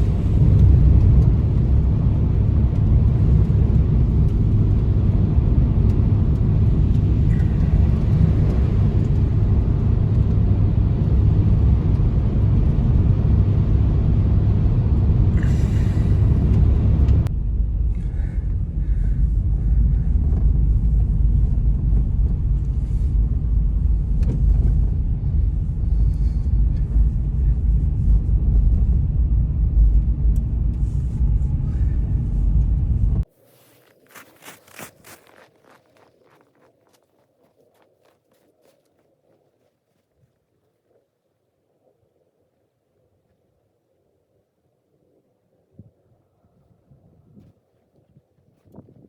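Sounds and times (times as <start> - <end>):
blizzard wind buffeting microphone: 0.0 - 39.5, 44.9 - 49.0.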